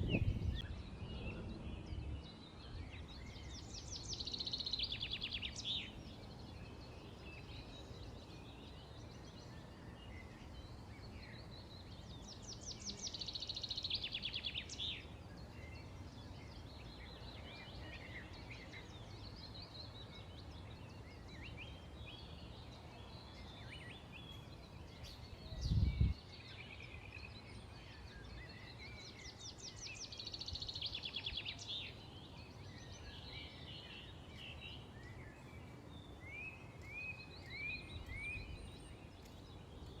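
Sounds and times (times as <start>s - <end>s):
bird trilling songs: 0.0s - 40.0s
songbirds chirping: 0.0s - 40.0s.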